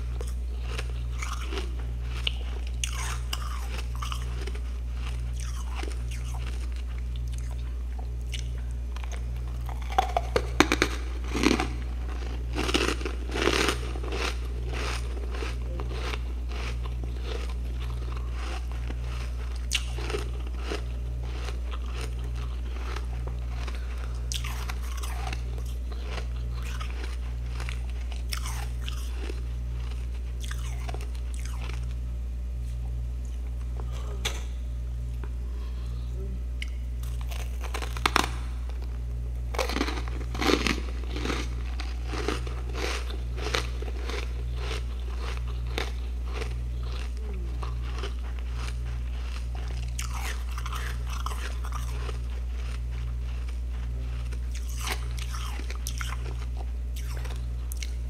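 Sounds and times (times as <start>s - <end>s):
crunching and chewing ice: 0.0s - 32.0s, 35.1s - 58.0s
steady low hum: 0.0s - 58.0s.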